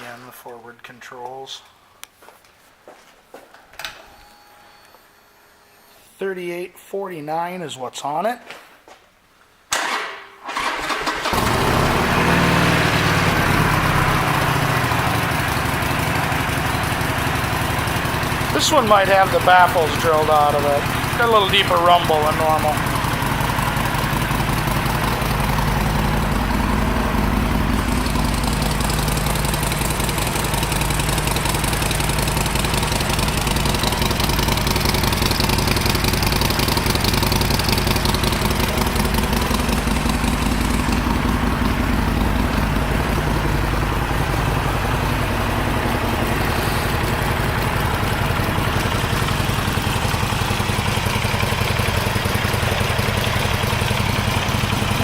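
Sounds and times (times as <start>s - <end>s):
motorcycle engine idling: 10.6s - 55.0s.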